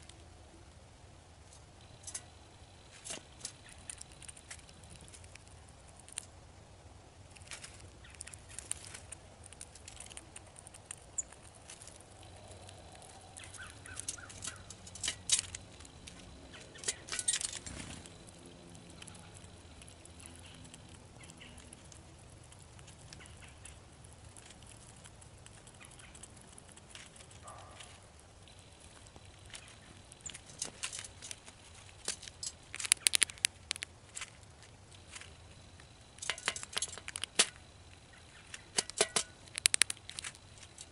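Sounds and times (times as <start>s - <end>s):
squirrel chewing and cracking seeds: 0.0s - 40.9s.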